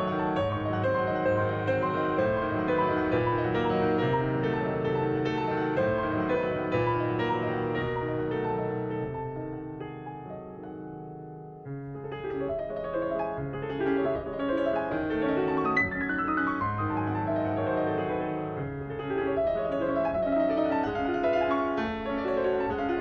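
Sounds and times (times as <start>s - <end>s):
solo grand piano piece: 0.0s - 23.0s.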